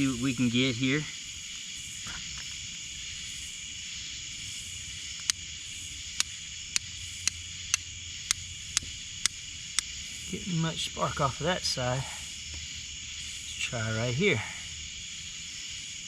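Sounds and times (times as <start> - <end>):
night insects droning: 0.0 - 16.0.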